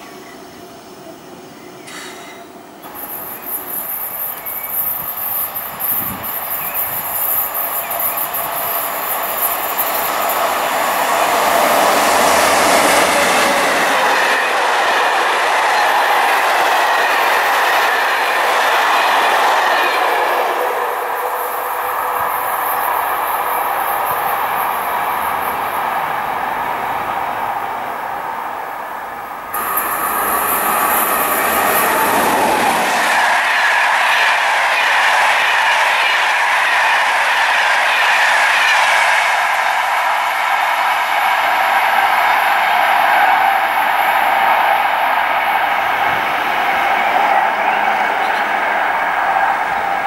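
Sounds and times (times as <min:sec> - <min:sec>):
passenger train passing: 0:00.0 - 0:50.0.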